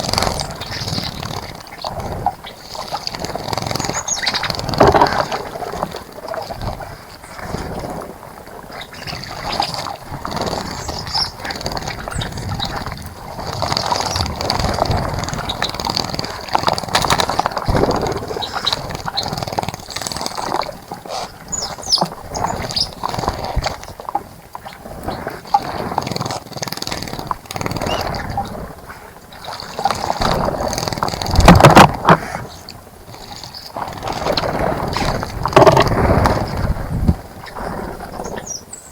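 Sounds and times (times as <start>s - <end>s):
water splashing in bird bath: 0.0s - 38.6s.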